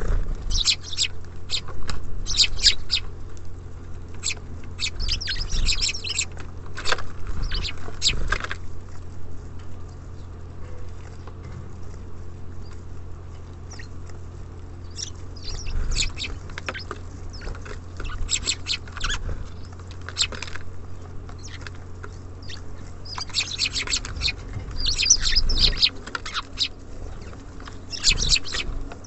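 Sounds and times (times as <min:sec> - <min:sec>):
low background hum: 0:00.0 - 0:29.0
songbirds chirping: 0:00.0 - 0:29.0.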